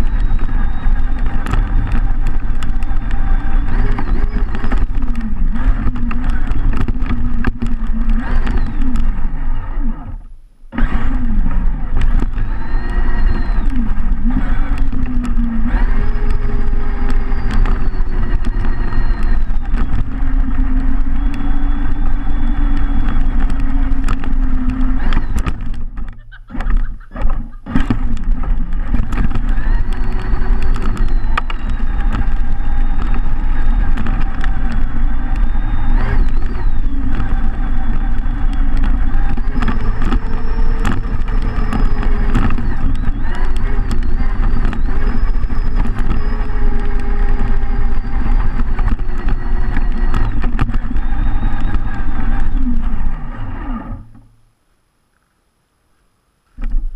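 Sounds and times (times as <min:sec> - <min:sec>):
chassis rattling on gravel: 0:00.0 - 0:09.6, 0:10.8 - 0:53.4
toy car motor whine: 0:00.0 - 0:54.4.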